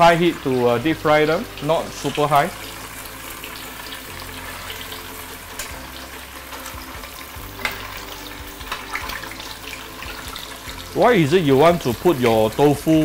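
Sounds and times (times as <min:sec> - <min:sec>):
tofu deep-frying in oil: 0:00.0 - 0:13.0.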